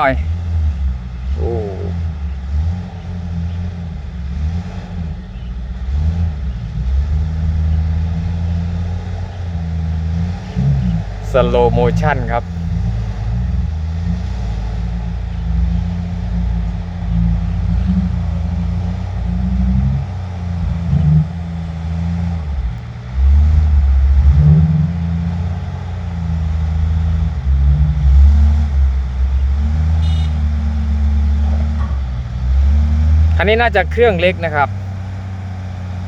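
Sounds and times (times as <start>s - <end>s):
diesel truck engine under load: 0.0s - 36.0s.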